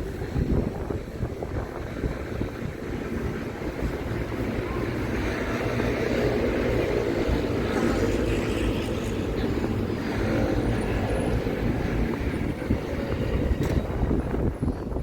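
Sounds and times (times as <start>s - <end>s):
street traffic passing: 0.0s - 15.0s
wind rumbling on microphone: 0.0s - 15.0s.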